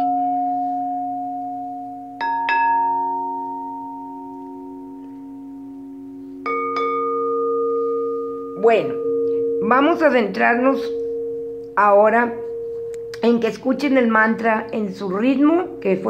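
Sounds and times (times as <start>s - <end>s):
singing bowl strikes: 0.0s - 16.0s
singing bowls ringing: 0.0s - 16.0s.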